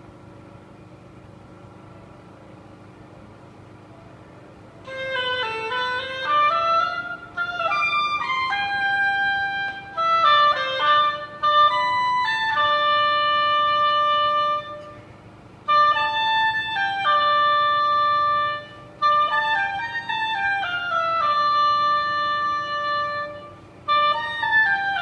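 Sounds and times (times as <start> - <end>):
solo oboe melody: 4.8 - 25.0.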